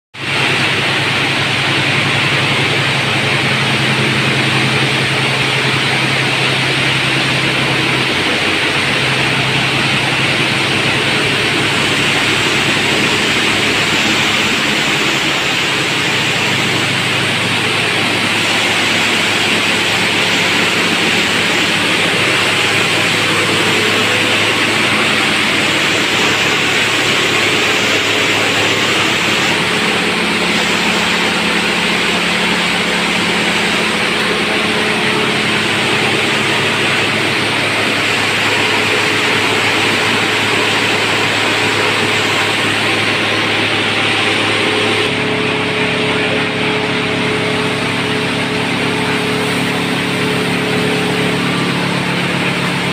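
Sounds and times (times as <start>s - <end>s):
low machine hum: 0.2s - 52.9s
water churning and splashing: 0.2s - 52.9s.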